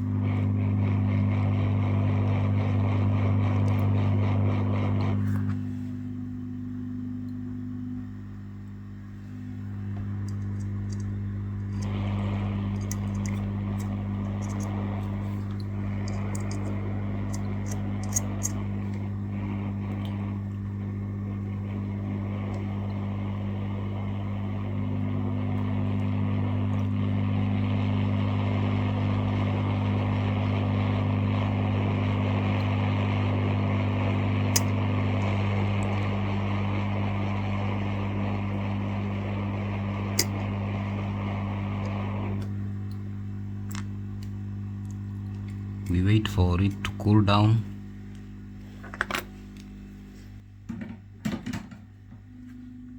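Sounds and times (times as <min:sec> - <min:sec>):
electric blower motor humming: 0:00.0 - 0:50.4.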